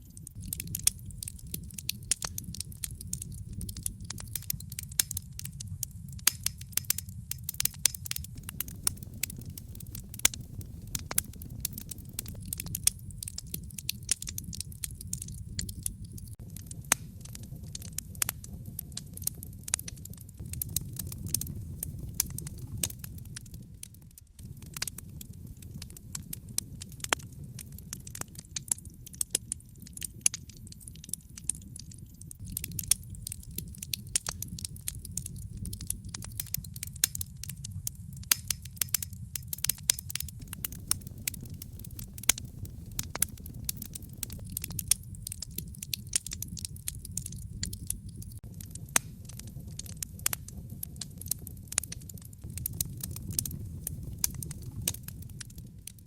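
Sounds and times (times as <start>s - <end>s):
low fire rumble: 0.0s - 56.0s
wood fire pops and snaps: 0.0s - 56.0s.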